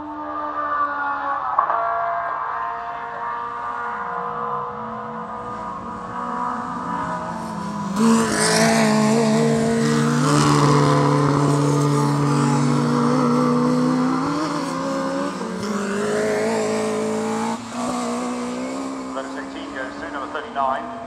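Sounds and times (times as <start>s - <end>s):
racing car engines running hard: 0.0s - 21.0s.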